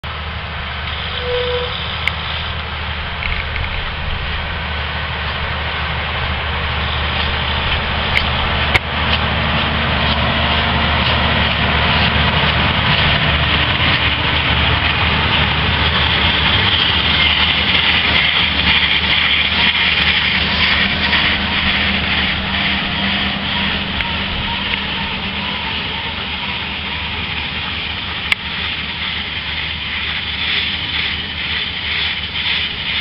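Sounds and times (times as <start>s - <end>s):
tractor engine running under load: 0.0s - 33.0s.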